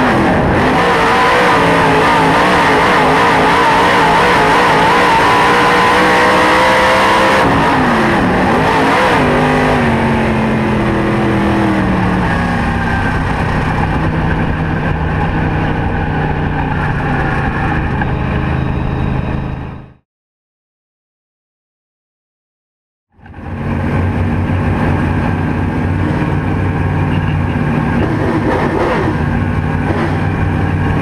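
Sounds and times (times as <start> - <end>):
race car engine running: 0.0 - 19.9, 23.2 - 31.0.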